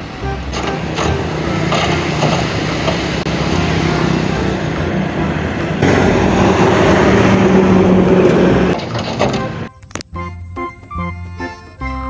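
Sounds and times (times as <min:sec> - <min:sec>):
dump truck engine running: 0:00.0 - 0:12.0.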